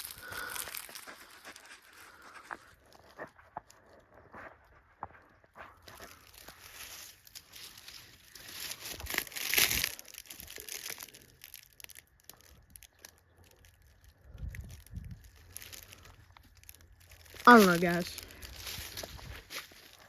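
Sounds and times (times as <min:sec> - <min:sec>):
rustling and crunching: 0:00.0 - 0:20.0.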